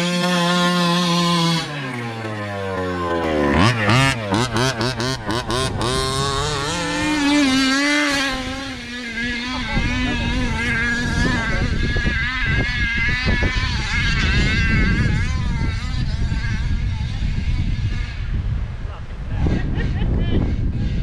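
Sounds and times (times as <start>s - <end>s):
rc car motor revving: 0.0s - 18.4s.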